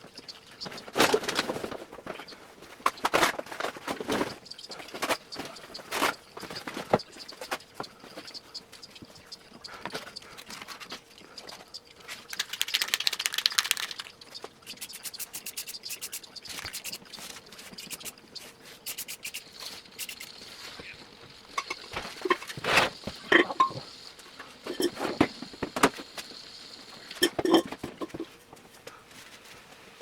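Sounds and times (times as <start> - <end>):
scratching and light clicks: 0.0 - 29.8.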